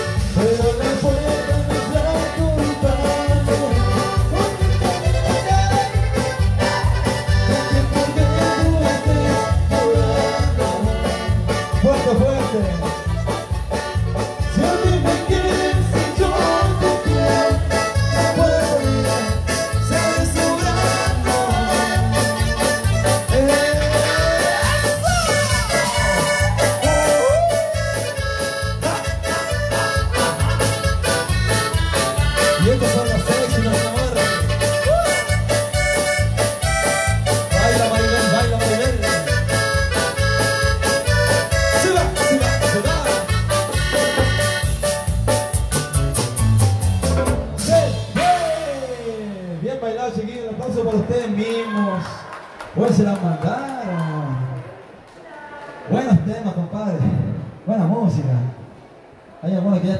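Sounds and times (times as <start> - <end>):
electronic keyboard melody: 0.0 - 48.8
drums with steady beat: 0.0 - 49.6.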